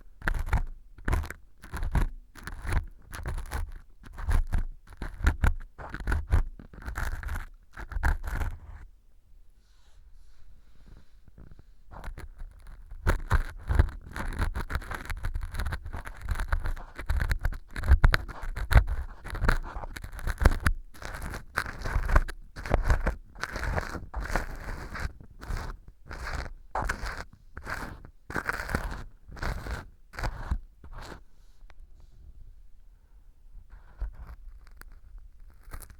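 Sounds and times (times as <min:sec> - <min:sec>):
ear pick scraping and crackling: 0:00.2 - 0:08.8, 0:10.9 - 0:31.2, 0:33.7 - 0:35.9.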